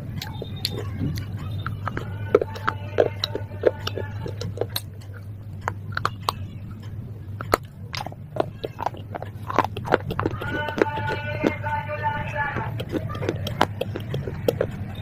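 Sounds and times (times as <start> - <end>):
crunching brittle clay: 0.0 - 15.0.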